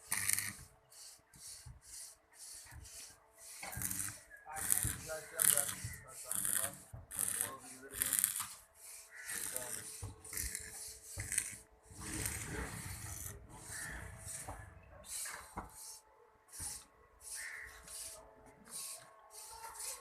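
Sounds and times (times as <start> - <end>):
scraping strokes on rough surface: 0.0 - 20.0.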